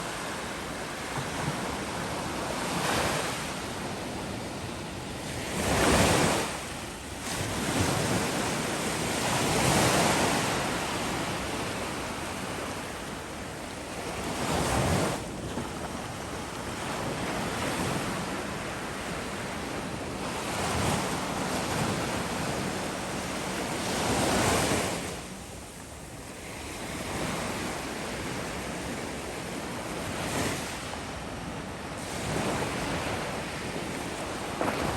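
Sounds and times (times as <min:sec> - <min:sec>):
waves breaking on shore: 0:00.0 - 0:34.9
wind on microphone: 0:00.0 - 0:34.9.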